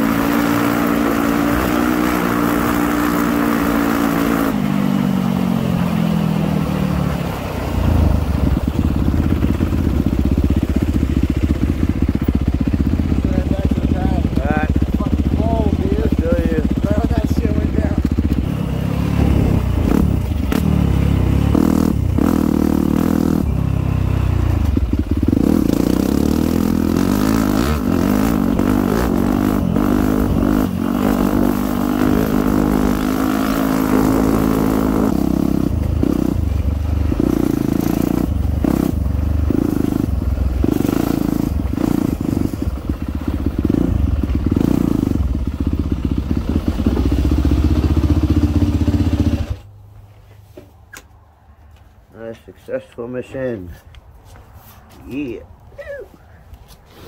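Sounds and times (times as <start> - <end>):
dirt bike engine revving: 0.0 - 49.7.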